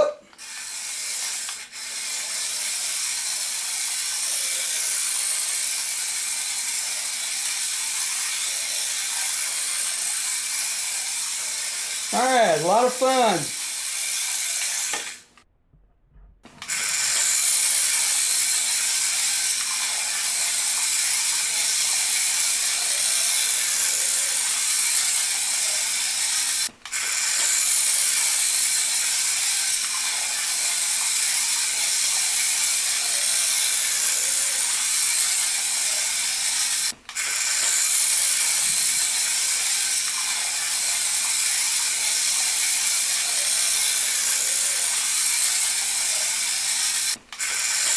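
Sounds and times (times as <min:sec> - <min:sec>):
toy car motor whirring: 0:00.0 - 0:15.4, 0:16.5 - 0:47.9.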